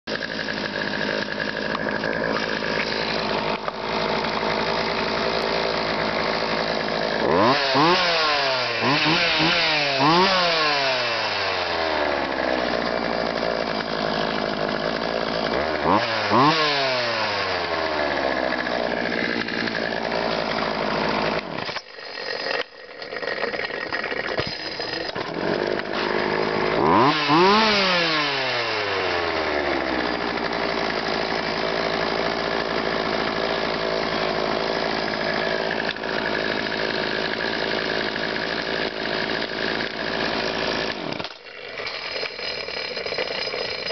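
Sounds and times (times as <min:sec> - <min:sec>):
chainsaw idling and revving: 0:00.1 - 0:43.9.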